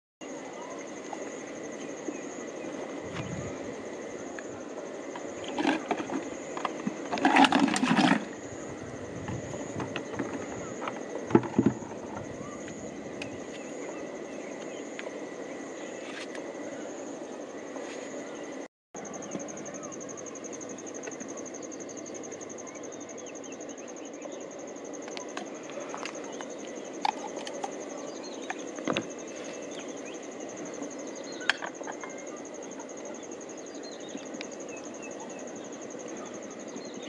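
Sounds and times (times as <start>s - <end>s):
insects buzzing: 0.2s - 37.0s.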